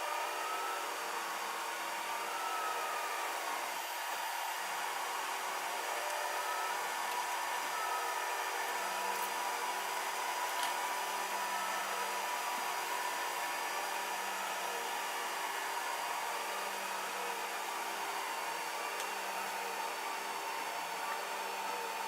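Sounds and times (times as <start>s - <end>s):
fan-like hum: 0.0s - 22.0s
stepper motor whines: 0.0s - 22.0s.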